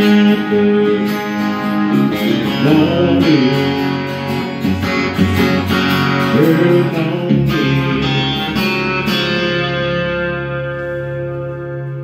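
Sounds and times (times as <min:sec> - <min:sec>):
guitar chord ringing: 0:00.0 - 0:12.0
guitars strumming: 0:00.0 - 0:12.0.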